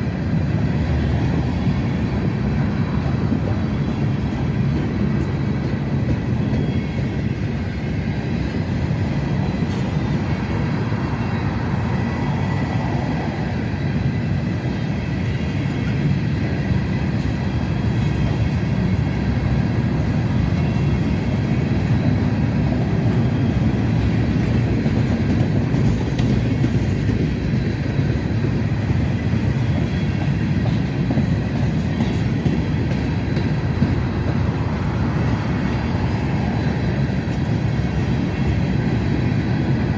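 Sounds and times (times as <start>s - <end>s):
freight train cars rolling past: 0.0s - 39.9s.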